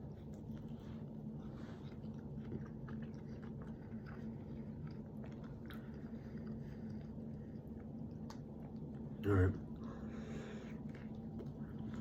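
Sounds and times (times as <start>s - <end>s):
person chewing: 0.0s - 12.0s
steady low hum: 0.0s - 12.0s.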